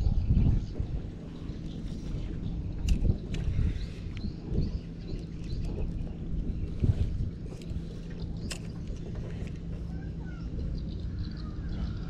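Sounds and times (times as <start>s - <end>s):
faint low hum: 0.0s - 12.0s
wind on microphone: 0.0s - 12.0s.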